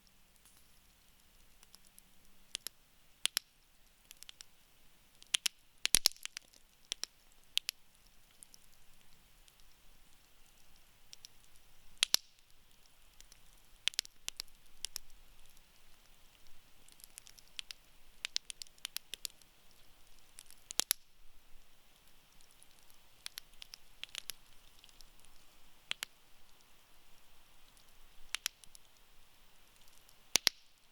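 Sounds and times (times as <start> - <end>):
campfire crackling and popping: 0.0 - 30.9.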